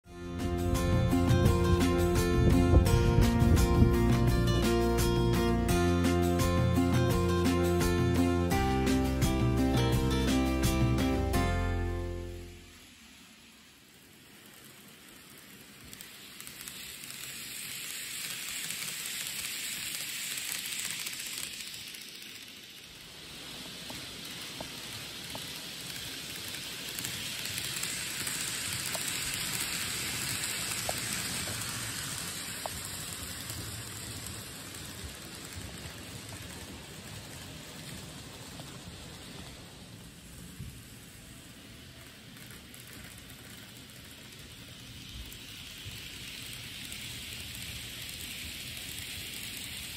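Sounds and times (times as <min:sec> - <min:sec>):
model train wheels and motor hissing: 0:00.0 - 0:49.9
wheels clicking over rail joints: 0:00.1 - 0:11.9, 0:13.4 - 0:49.9.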